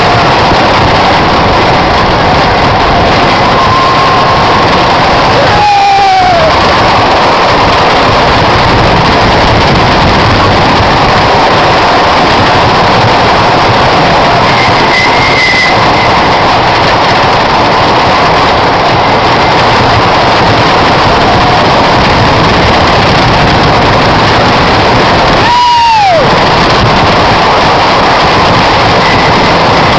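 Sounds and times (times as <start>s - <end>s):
roller coaster train on track: 0.0s - 29.9s
wind blasting over microphone: 0.0s - 29.9s.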